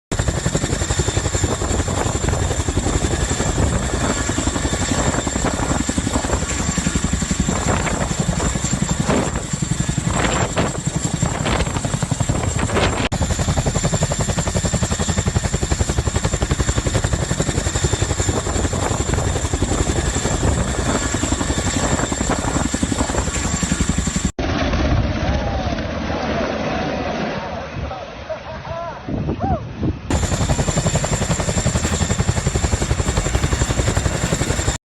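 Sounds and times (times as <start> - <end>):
turbine whine: 0.1 - 26.0, 30.1 - 34.8
helicopter rotor chop: 0.1 - 28.2, 30.1 - 34.8.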